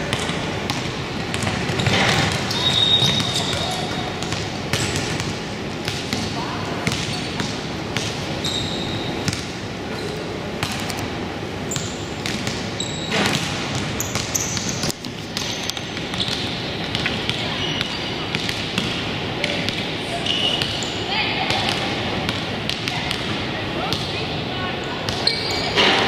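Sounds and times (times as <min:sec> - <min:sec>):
hubbub of voices: 0:00.0 - 0:26.0
sneakers squeaking: 0:00.0 - 0:26.0
basketball bouncing on court: 0:00.1 - 0:11.0, 0:11.7 - 0:19.9, 0:21.5 - 0:24.2.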